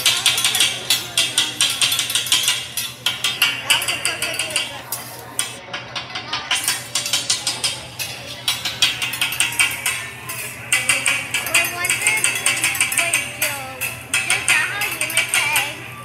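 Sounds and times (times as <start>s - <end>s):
metal spatulas clacking on griddle: 0.0s - 15.9s.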